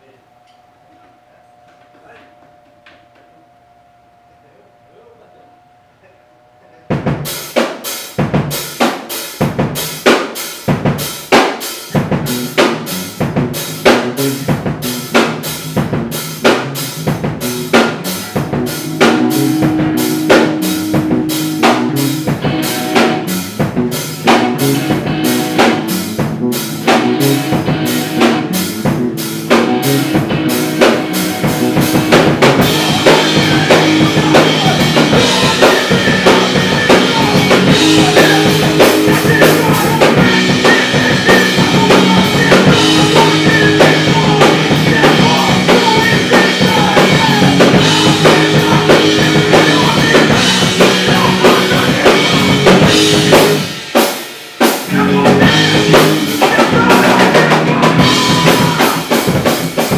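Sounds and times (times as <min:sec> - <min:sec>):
live rock band: 0:06.9 - 0:59.9.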